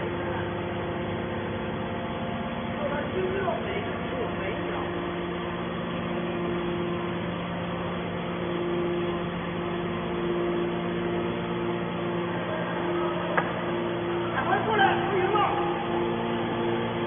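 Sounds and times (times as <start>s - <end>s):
baler mechanical hum: 0.0s - 17.0s
higher machine tone: 0.0s - 17.0s.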